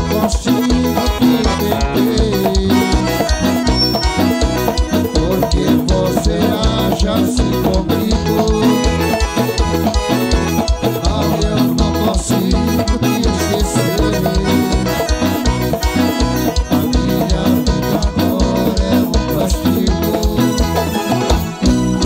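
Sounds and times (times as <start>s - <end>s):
dance band music: 0.0s - 22.0s
fast drum beat: 0.0s - 22.0s.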